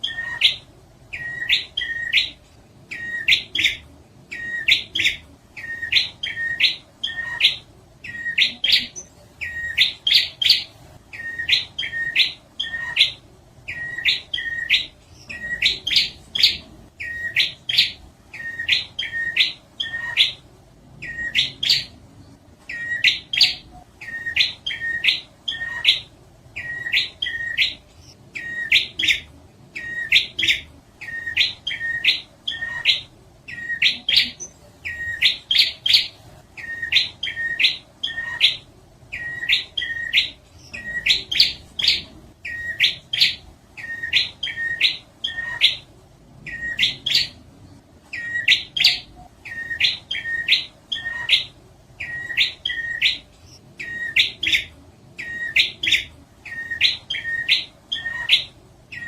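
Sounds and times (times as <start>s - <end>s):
bird sharp chirping calls: 0.0s - 20.4s, 21.0s - 22.0s, 22.7s - 45.9s, 46.5s - 47.4s, 48.1s - 59.0s.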